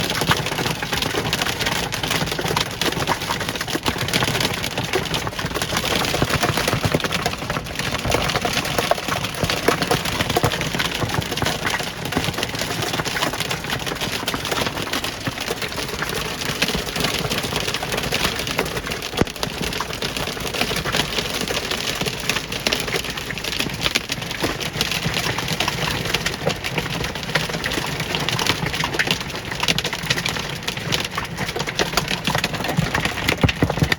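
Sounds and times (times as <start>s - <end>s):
hailstones pelting down: 0.0s - 33.9s
rain: 0.0s - 33.9s.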